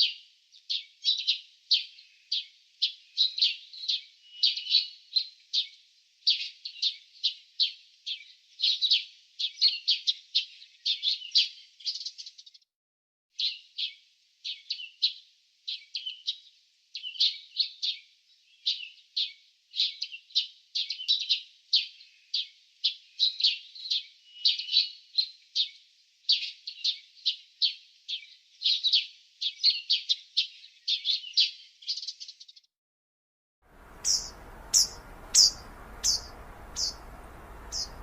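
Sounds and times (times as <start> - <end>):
small birds chirping: 0.0 - 12.6, 13.4 - 32.7, 33.7 - 38.0.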